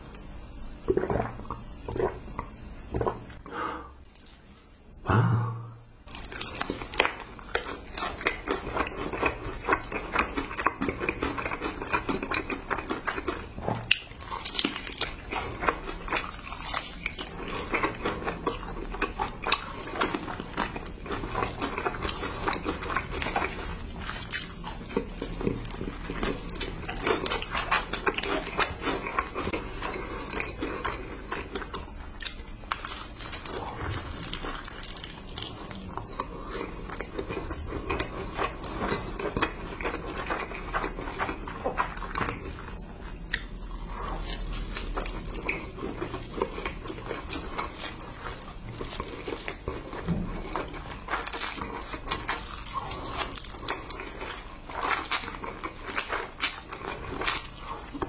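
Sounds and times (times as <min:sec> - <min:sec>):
crunchy biting and chewing: 0:06.1 - 0:58.0.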